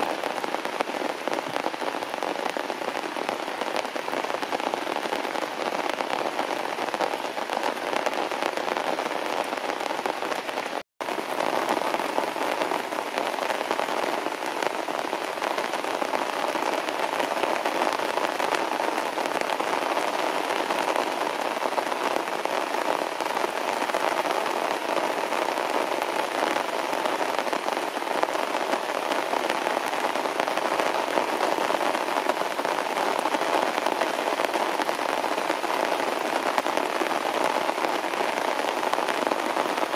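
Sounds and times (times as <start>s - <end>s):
heavy rain on grass and leaves: 0.0s - 39.9s.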